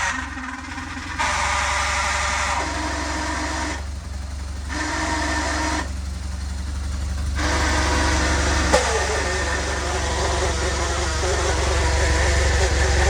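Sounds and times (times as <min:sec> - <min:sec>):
intermittent high engine noise: 0:00.0 - 0:13.0
motorcycle engine humming: 0:00.0 - 0:13.0.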